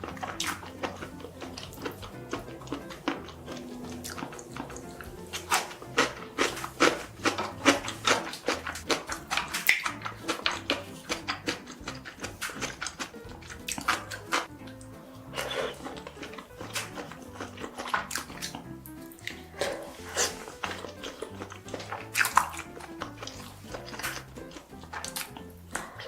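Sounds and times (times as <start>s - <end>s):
chewing and eating: 0.0s - 26.0s
soft background music: 0.0s - 26.0s.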